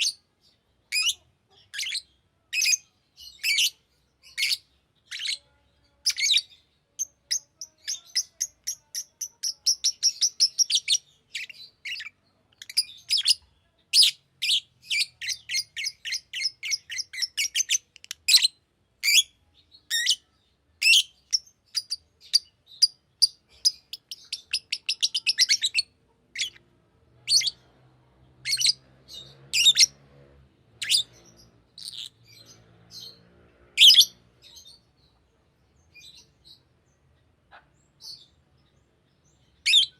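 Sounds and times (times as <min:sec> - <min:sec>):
lovebird chirping: 0:00.0 - 0:27.8, 0:28.4 - 0:30.0, 0:30.7 - 0:39.9.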